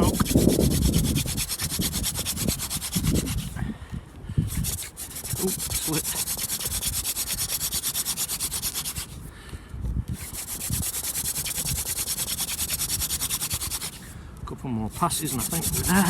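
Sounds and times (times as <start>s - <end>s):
wood rubbing on wood: 0.0s - 3.6s, 4.5s - 9.2s, 10.1s - 14.1s, 14.9s - 16.0s.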